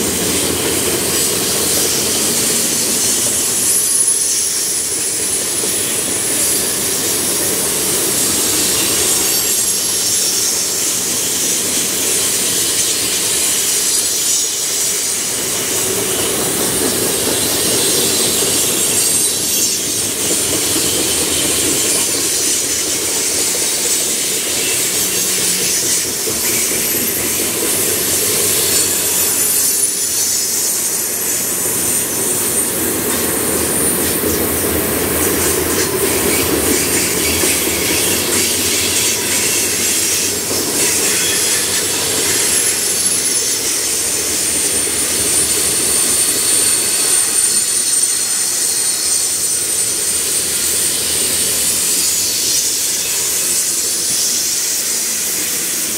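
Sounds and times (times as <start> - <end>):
freight train wheels rumbling: 0.0 - 55.9
high wheel squeal: 0.0 - 55.9.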